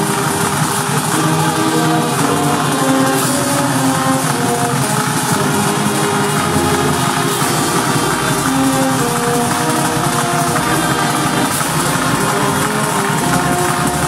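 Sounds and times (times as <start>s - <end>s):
brass band playing a hymn: 0.0s - 14.0s.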